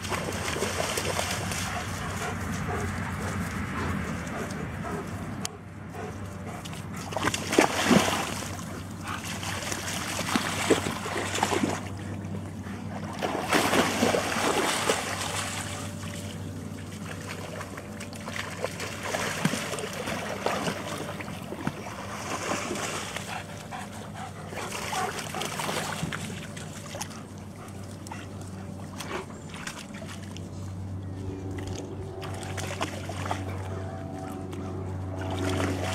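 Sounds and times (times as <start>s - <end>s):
dogs splashing through water: 0.0s - 35.9s.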